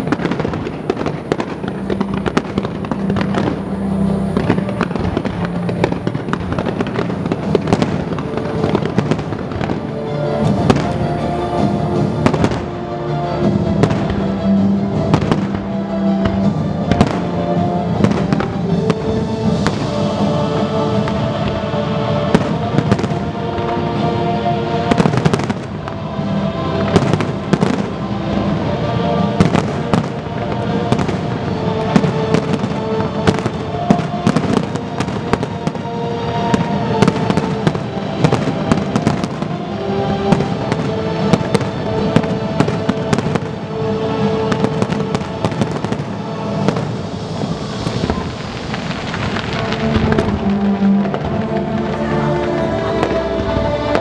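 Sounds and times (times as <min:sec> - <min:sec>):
fireworks bursting: 0:00.0 - 0:12.8, 0:13.4 - 0:54.0
music playing: 0:00.0 - 0:54.0.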